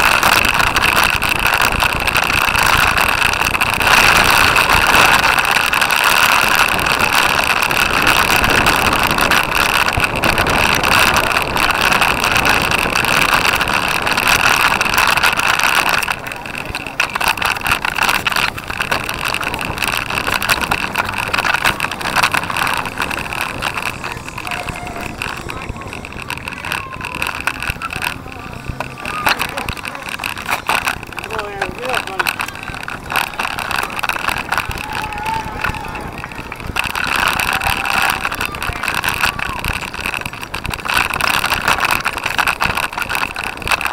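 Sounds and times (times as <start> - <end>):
camera rattling on bicycle: 0.0 - 43.9
tyre and chain noise: 0.0 - 43.9
wind on microphone: 0.0 - 43.9.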